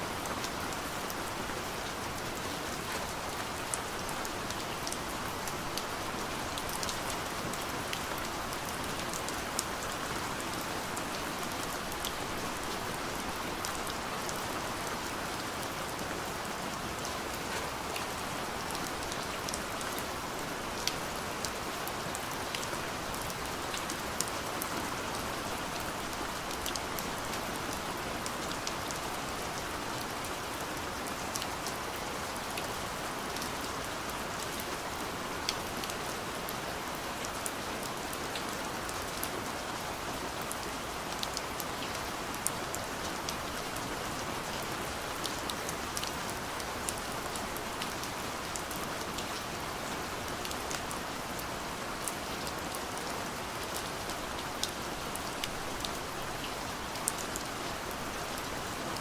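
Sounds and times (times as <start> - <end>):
rain pattering on a window: 0.1 - 59.0.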